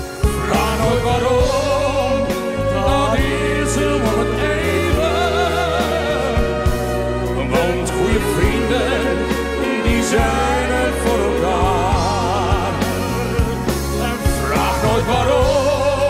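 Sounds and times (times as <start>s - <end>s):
live band playing a ballad: 0.0s - 16.0s
men singing with vibrato: 0.0s - 16.0s
steady bass notes: 0.0s - 16.0s.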